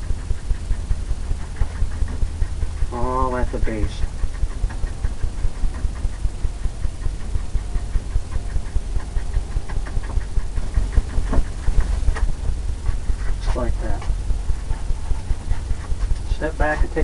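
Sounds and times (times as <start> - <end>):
brush tapping on canvas: 1.4 - 17.0.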